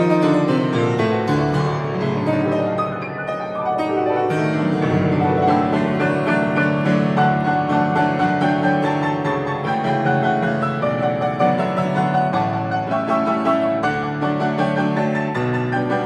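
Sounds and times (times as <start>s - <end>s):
solo grand piano: 0.0s - 16.0s.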